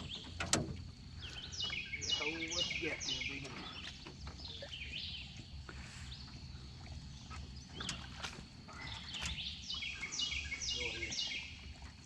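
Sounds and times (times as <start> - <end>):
bird calling: 1.1 - 11.8.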